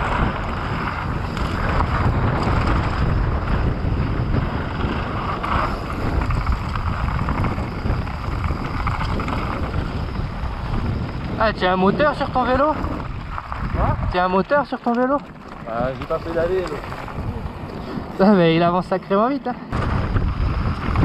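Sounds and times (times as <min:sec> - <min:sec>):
low rumble of rolling bike: 0:00.0 - 0:21.0
wind rushing over microphone: 0:00.0 - 0:21.0.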